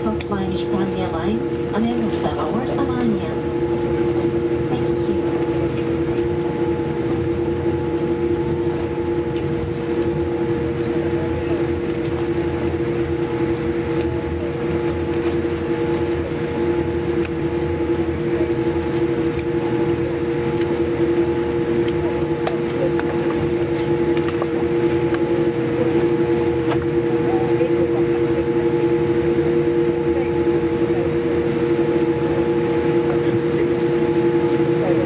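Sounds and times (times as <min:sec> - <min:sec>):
airplane cabin hum: 0:00.0 - 0:35.0.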